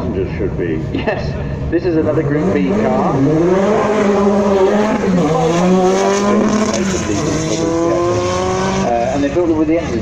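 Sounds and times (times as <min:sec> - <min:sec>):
rally car engine revving: 0:01.6 - 0:10.0.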